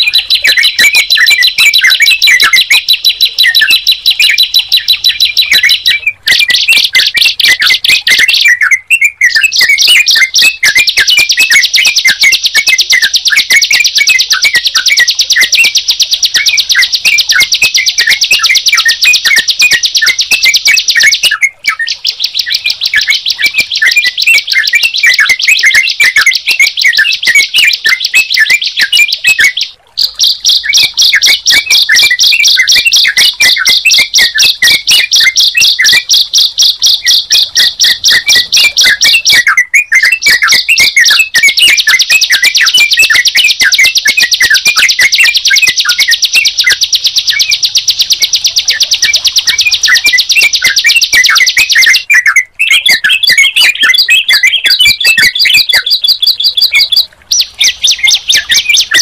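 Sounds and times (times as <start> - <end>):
fast high bird trill: 0.0 - 59.0
lower bird chirps: 0.0 - 59.0.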